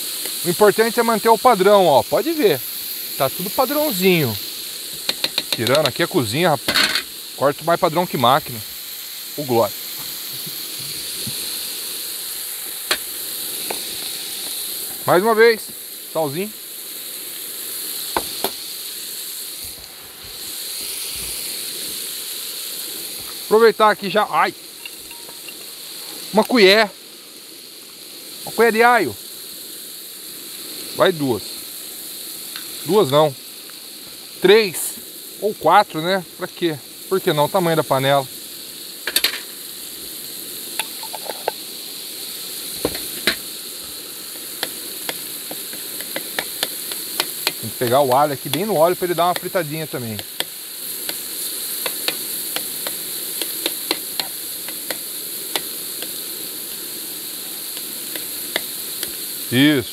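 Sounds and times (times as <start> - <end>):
meat and peppers sizzling in pan: 0.0 - 59.9.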